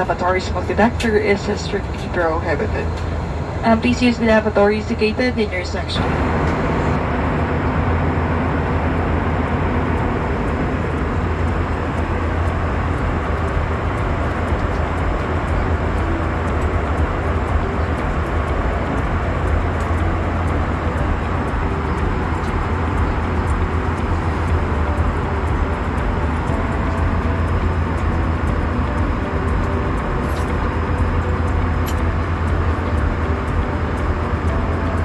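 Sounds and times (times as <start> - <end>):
aircraft cabin engine rumble: 0.0 - 35.0
rushing airflow: 5.5 - 35.0.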